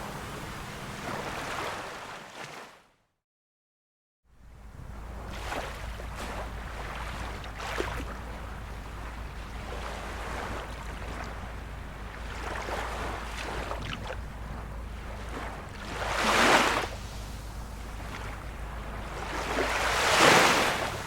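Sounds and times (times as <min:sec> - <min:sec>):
constant low rumble: 0:00.0 - 0:01.5, 0:04.3 - 0:21.0
small waves lapping: 0:00.0 - 0:02.8, 0:04.5 - 0:21.0.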